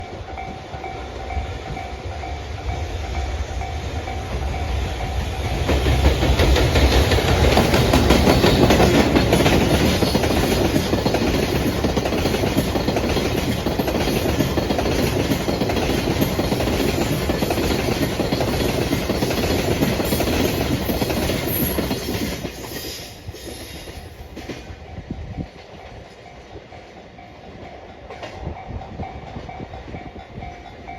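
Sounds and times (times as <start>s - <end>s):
train wheels clicking over rail joints: 0.0s - 30.9s.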